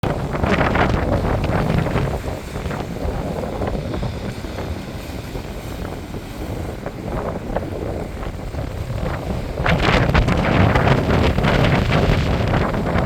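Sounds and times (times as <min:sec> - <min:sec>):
airflow and engine rush: 0:00.0 - 0:13.0
gusty rumbling: 0:00.0 - 0:13.0.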